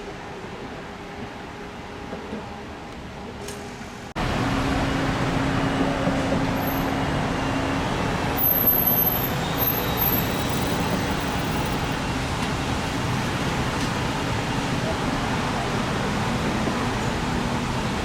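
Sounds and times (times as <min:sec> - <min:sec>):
buses running close by: 0:00.0 - 0:18.0
road traffic: 0:03.2 - 0:18.0.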